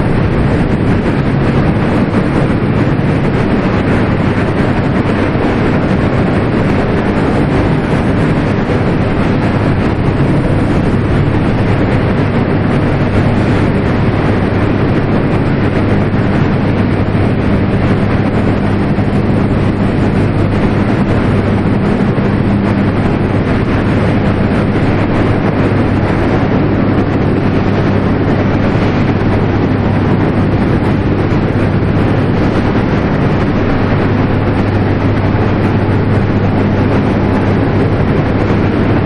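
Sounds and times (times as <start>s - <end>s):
constant low hum: 0.0s - 39.0s
industrial machine rushing noise: 0.0s - 39.0s.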